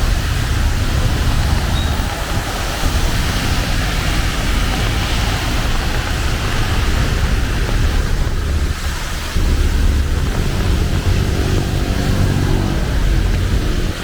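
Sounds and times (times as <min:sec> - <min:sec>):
heavy rain hissing: 0:00.0 - 0:14.0
low rumble: 0:00.0 - 0:14.0
passing vehicle engine hum: 0:00.0 - 0:14.0.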